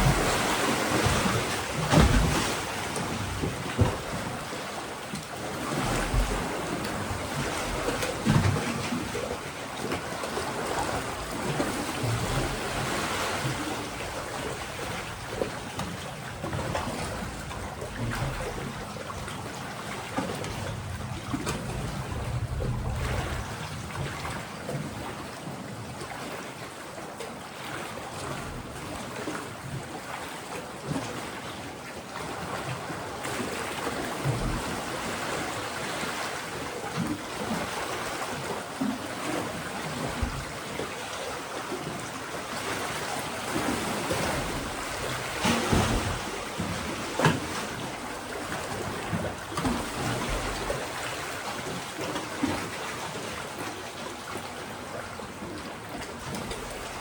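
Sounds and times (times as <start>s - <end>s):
sea waves on rocky shore: 0.0s - 26.7s, 27.6s - 57.0s.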